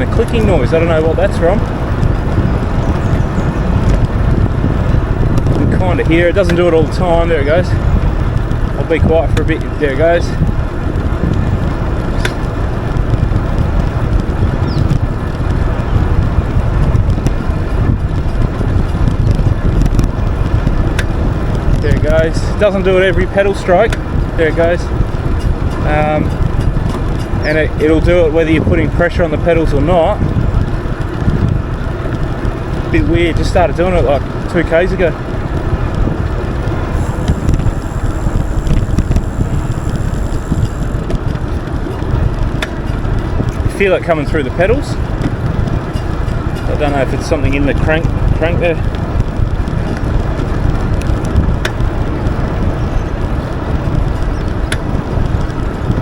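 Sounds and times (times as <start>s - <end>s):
bike drivetrain clicks: 0.0s - 56.0s
wind rumbling on microphone: 0.0s - 56.0s.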